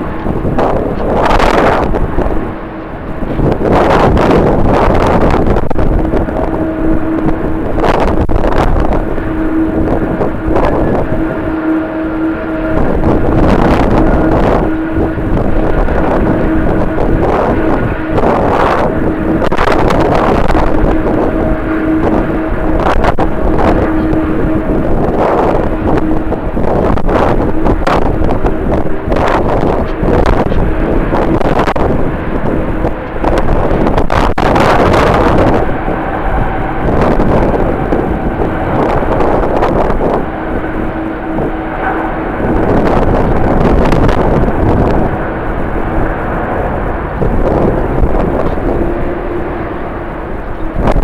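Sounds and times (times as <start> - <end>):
jet engine noise: 0.0 - 51.0
low hum: 0.0 - 51.0
wind buffeting microphone: 0.0 - 51.0.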